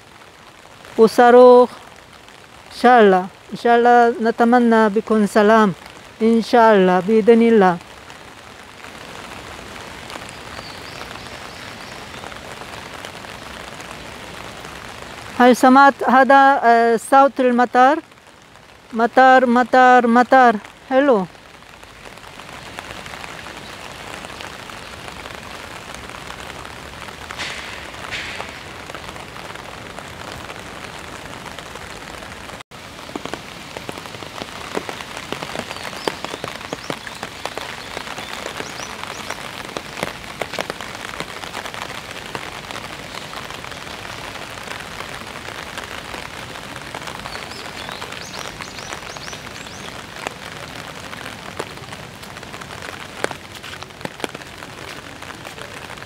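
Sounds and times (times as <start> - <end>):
raindrops ticking close by: 0.0 - 56.0
steady rain on paving and trees: 0.0 - 56.0.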